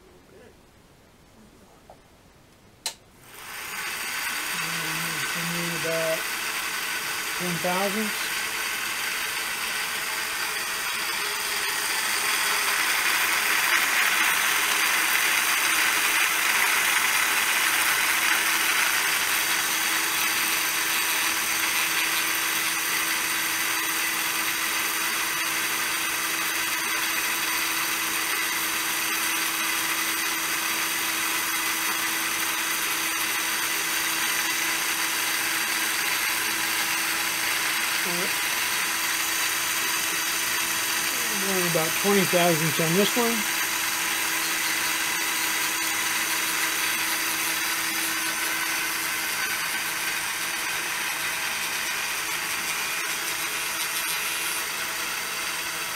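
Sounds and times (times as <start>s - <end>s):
electric motor cutter humming: 2.9s - 55.9s.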